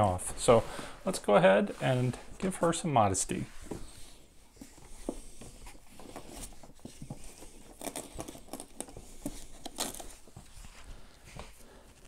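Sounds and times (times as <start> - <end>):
cloth rustling: 0.1 - 12.0.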